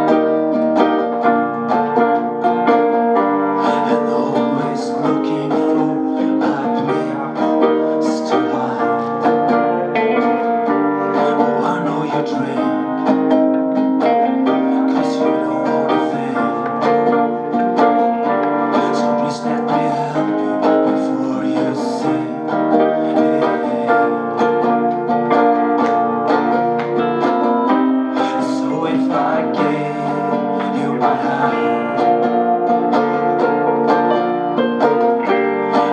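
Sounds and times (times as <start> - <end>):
plucked string music: 0.0 - 35.9.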